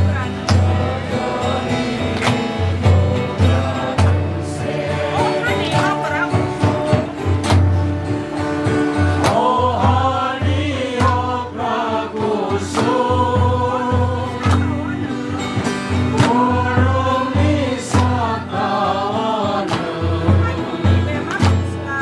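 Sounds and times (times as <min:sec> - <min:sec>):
drum beat: 0:00.0 - 0:22.0
group singing a hymn: 0:00.0 - 0:22.0.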